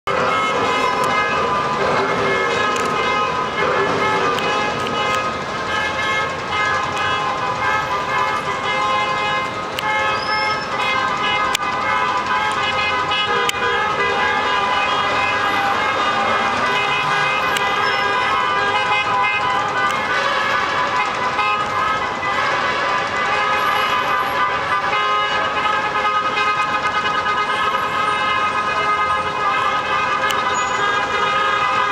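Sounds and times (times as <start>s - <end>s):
slow-moving street traffic: 0.0s - 31.9s
car horns honking: 0.1s - 31.9s.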